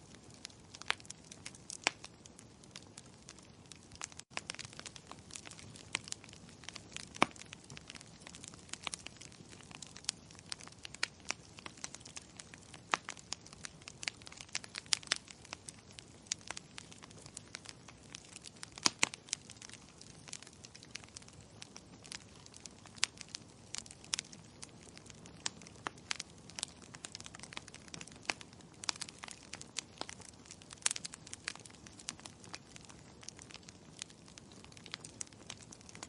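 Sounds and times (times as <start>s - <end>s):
fireplace fire crackling: 0.0s - 36.0s.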